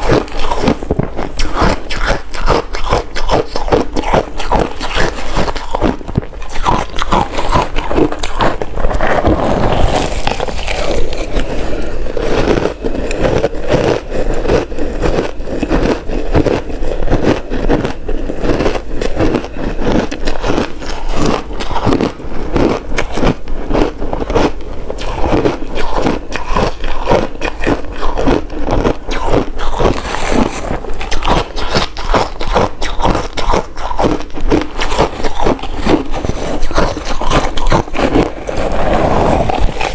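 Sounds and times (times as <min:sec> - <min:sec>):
teeth crunching ice: 0:00.0 - 0:39.9.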